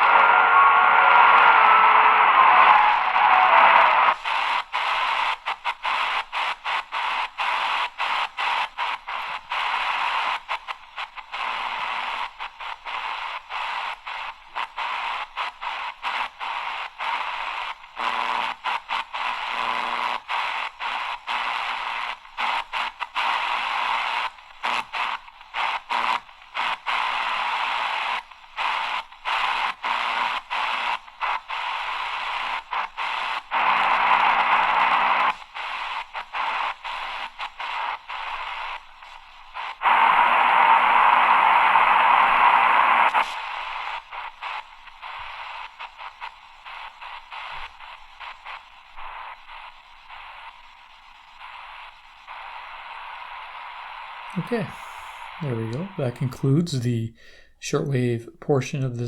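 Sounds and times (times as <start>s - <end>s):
faint low signal hum: 0.0s - 59.0s
radio static hiss: 0.0s - 59.0s.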